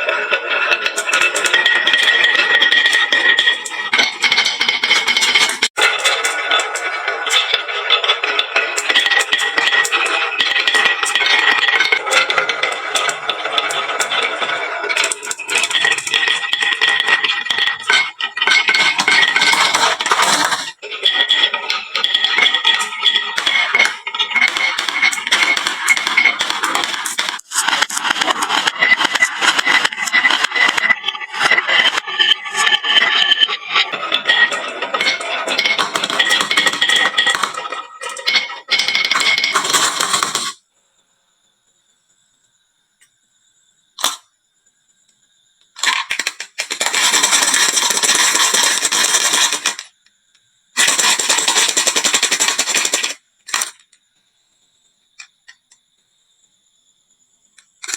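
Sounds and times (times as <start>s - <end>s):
marbles clattering on wooden run: 0.0s - 40.6s, 45.8s - 50.0s, 50.8s - 53.9s.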